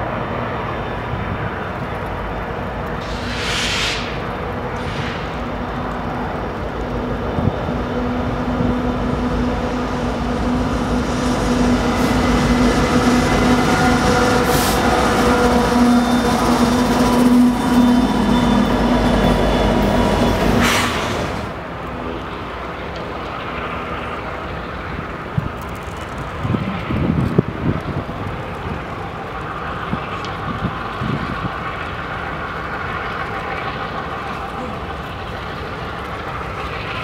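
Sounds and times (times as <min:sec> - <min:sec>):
diesel locomotives passing: 0:00.0 - 0:37.0.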